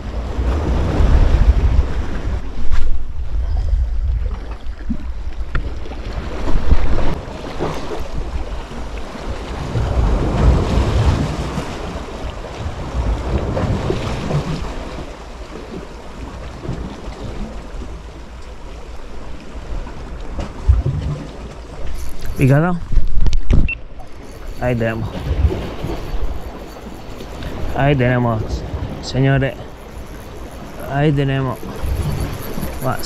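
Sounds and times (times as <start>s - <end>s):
wind gusting against microphone: 0.0s - 15.1s, 19.7s - 33.0s
sea waves at the shore: 0.0s - 33.0s.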